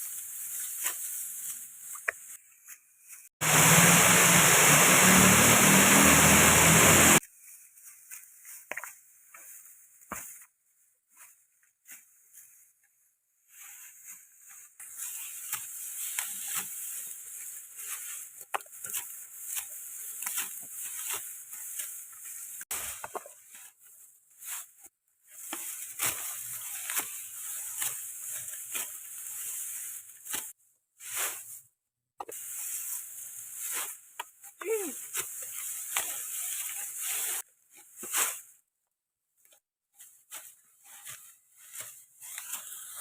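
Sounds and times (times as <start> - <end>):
dry rice stalks rustling: 0.0 - 31.6, 32.3 - 38.6, 39.5 - 43.0.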